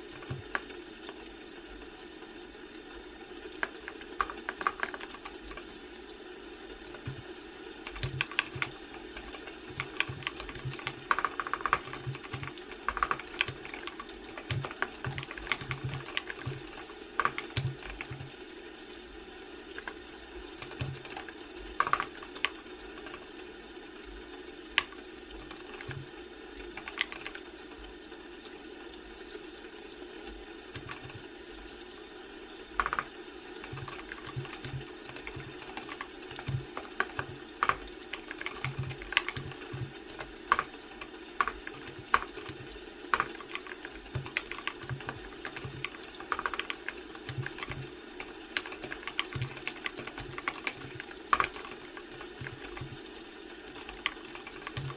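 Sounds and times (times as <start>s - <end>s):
computer keyboard typing: 0.0s - 1.2s, 3.5s - 5.9s, 6.6s - 18.4s, 19.7s - 23.4s, 24.8s - 27.5s, 29.4s - 31.4s, 32.7s - 54.9s.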